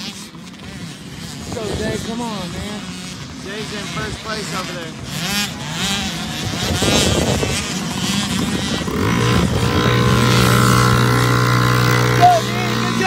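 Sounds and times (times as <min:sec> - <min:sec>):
motocross bikes revving: 0:00.0 - 0:13.0
steady engine drone: 0:00.0 - 0:13.0.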